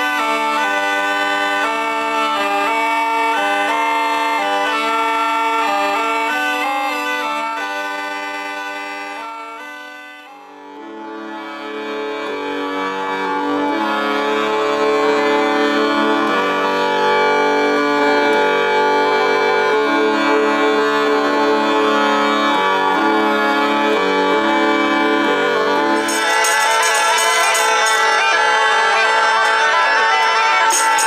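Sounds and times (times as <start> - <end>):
bagpipe playing solo: 0.0 - 31.0.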